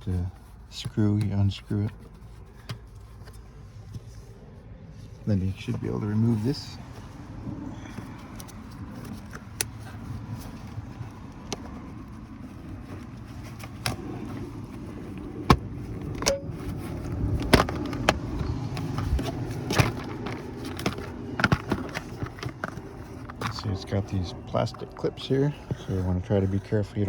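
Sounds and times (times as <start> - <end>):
rustling handling noise: 0.0 - 27.0.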